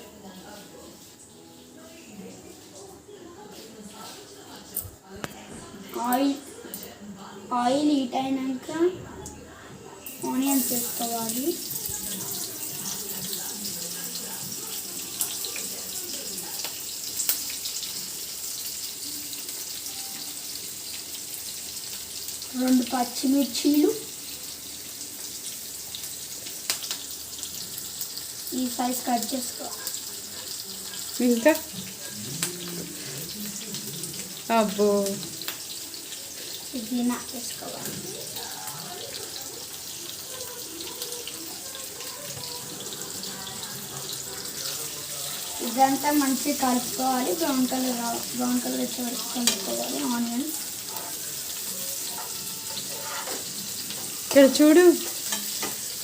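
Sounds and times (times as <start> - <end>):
onions sizzling in hot oil: 5.9 - 8.8, 9.8 - 56.0.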